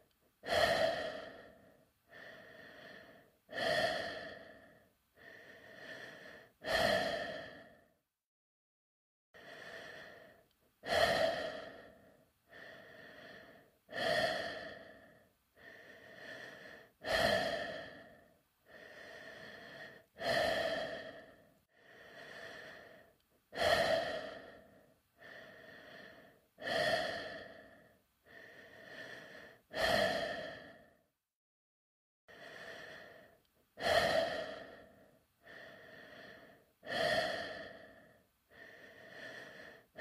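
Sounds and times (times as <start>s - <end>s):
person breathing inside helmet: 0.0s - 8.0s, 9.4s - 31.1s, 32.3s - 40.0s.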